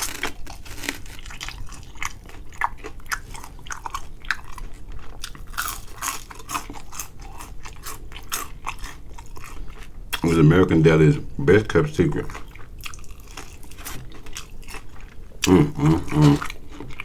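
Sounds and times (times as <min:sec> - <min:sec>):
crunching and chewing: 0:00.0 - 0:10.5, 0:12.0 - 0:17.0.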